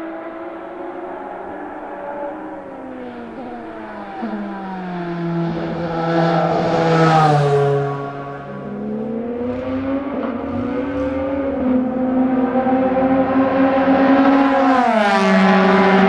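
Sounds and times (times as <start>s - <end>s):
racing car engine passing by: 0.0s - 16.0s.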